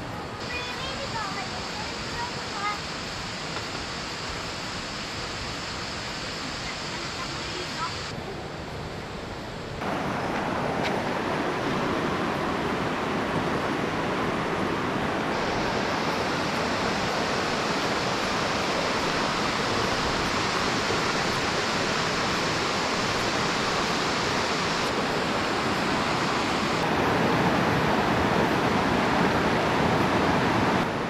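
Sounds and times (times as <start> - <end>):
river rushing over stones: 0.2 - 8.2, 9.2 - 31.0.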